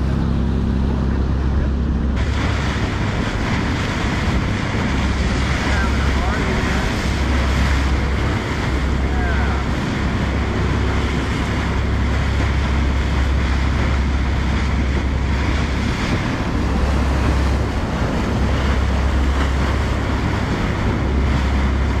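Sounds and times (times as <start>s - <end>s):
low rumble: 0.0s - 22.0s
water splashing along boat bow: 0.0s - 22.0s
wind buffeting microphone: 0.0s - 22.0s.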